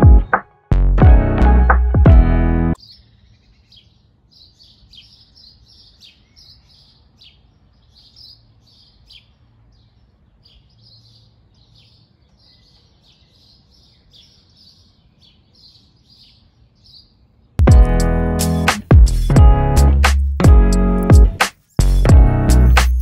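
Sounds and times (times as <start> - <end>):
small birds chirping: 2.8 - 19.4, 20.8 - 23.0.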